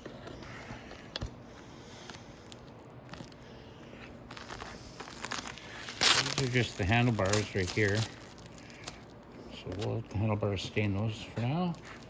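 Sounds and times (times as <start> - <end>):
faint rustling and handling: 0.0 - 12.0.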